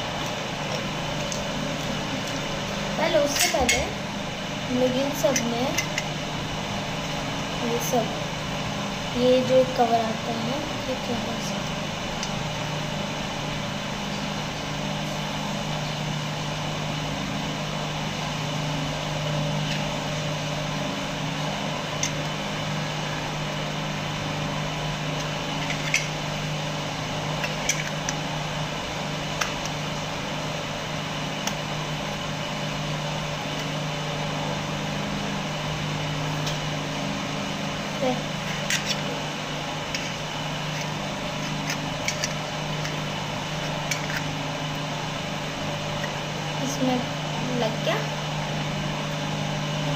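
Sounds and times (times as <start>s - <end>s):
appliance humming: 0.0s - 49.9s.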